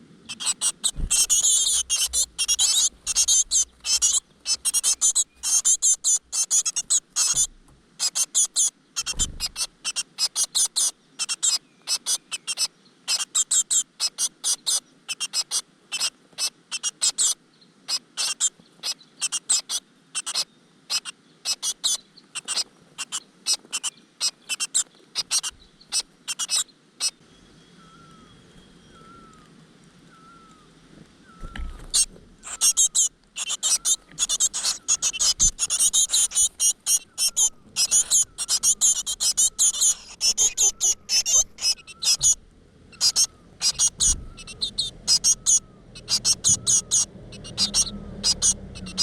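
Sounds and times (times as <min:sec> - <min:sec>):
nestlings begging calls: 0:00.0 - 0:49.0.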